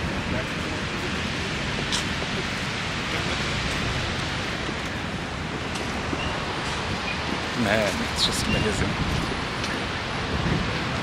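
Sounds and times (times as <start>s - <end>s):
ocean surf: 0.0s - 11.0s
wind buffeting microphone: 0.0s - 11.0s.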